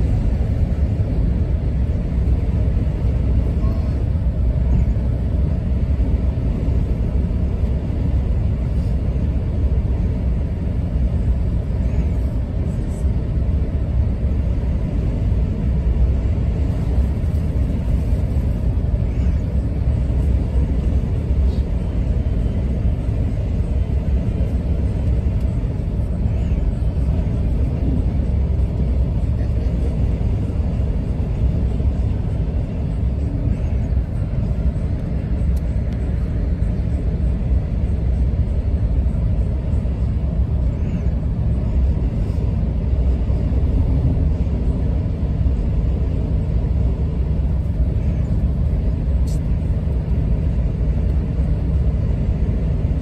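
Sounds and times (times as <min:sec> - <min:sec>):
road and engine rumble: 0:00.0 - 0:53.0.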